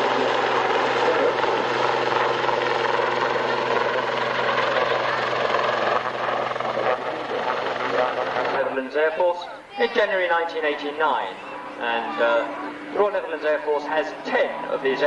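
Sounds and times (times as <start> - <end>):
aircraft engine drone: 0.0 - 8.8, 10.4 - 15.0.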